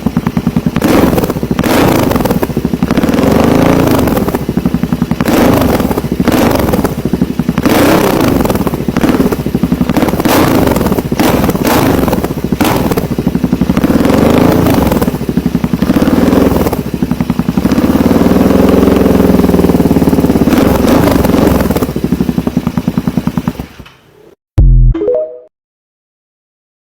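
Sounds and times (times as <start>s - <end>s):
motorcycle engine revving: 0.0s - 24.1s.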